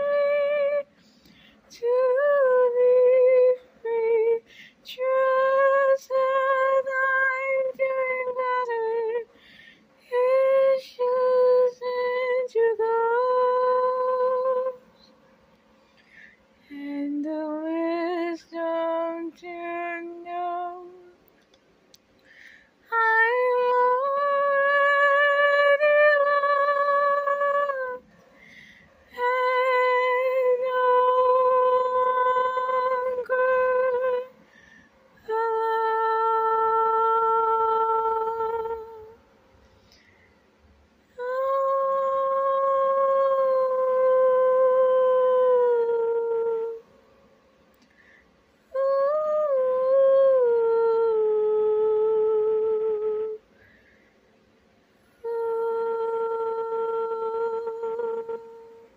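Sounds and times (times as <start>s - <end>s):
woman singing unaccompanied: 0.0s - 9.4s, 10.0s - 15.1s, 16.6s - 21.3s, 22.4s - 39.2s, 41.1s - 46.9s, 48.6s - 53.5s, 55.2s - 58.9s.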